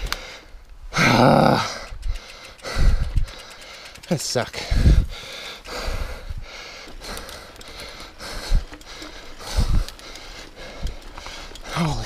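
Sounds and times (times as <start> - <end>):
man breathing hard: 0.0 - 11.8.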